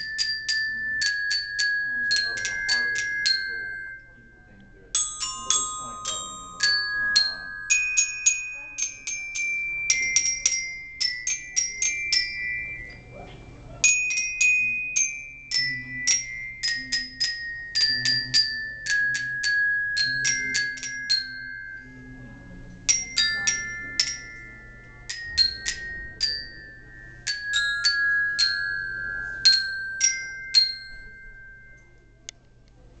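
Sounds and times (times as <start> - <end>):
glockenspiel duet: 0.0 - 32.8.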